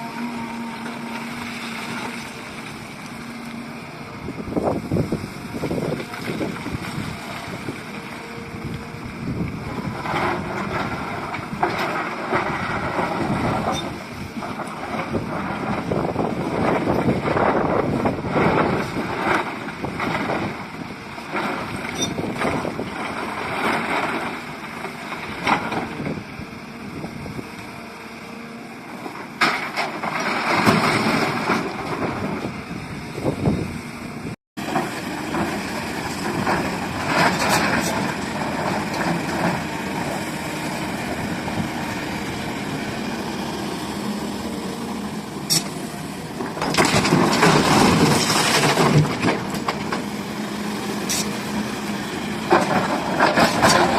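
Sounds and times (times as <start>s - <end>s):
excavator diesel engine: 0.0s - 53.9s.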